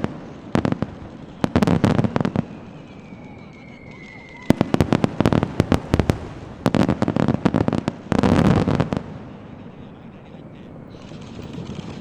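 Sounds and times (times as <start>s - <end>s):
fireworks cracking and popping: 0.0s - 12.0s.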